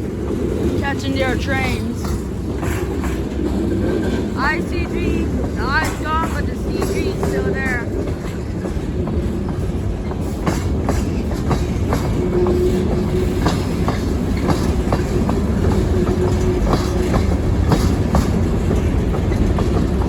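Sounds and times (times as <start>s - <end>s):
low rumble of train: 0.0s - 20.0s
wheels clicking over rail joints: 0.0s - 20.0s.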